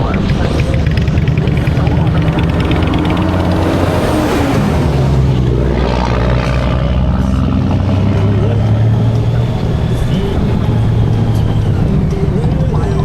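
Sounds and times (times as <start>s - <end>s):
motorcycle engine running: 0.0s - 13.0s
rushing wind: 0.0s - 13.0s.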